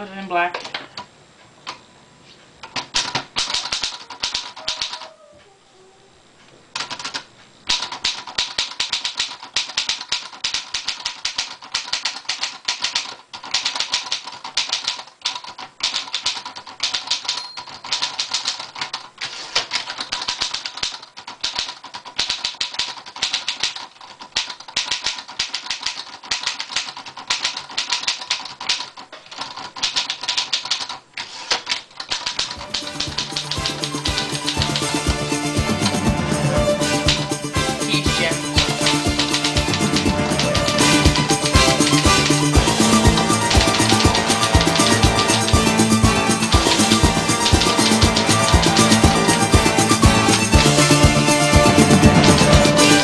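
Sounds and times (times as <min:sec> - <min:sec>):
manual typewriter typing: 0:02.6 - 0:05.0, 0:06.8 - 0:53.0.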